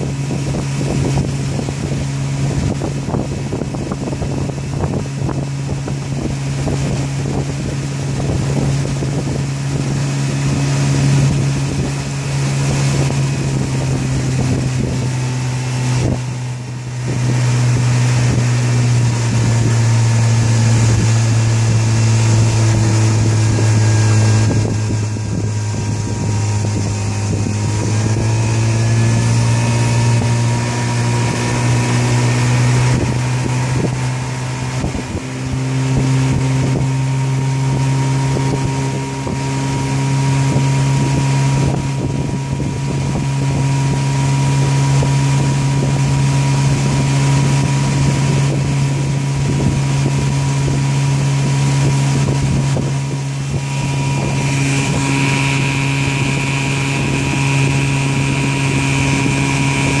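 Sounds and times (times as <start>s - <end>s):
outboard motor running: 0.0s - 60.0s
wind on microphone: 0.0s - 60.0s.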